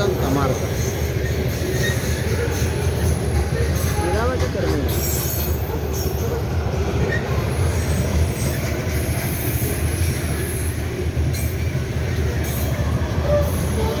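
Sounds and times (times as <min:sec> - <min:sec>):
train wagons rumbling on rails: 0:00.0 - 0:14.0.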